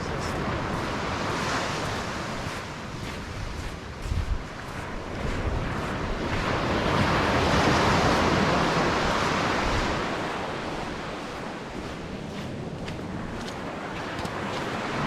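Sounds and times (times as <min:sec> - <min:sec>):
wave breaking on beach: 0:00.0 - 0:15.0
wind rumbling on microphone: 0:00.0 - 0:15.0.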